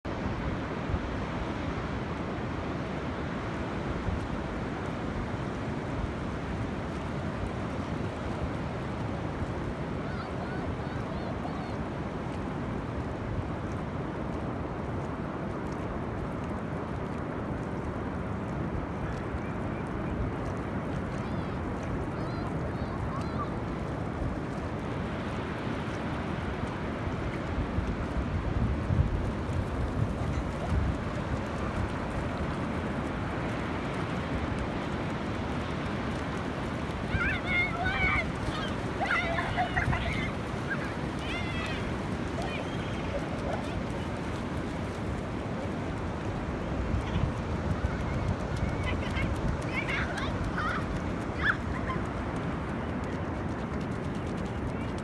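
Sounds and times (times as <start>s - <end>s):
ocean surf: 0.1s - 55.0s
wind buffeting microphone: 0.1s - 55.0s.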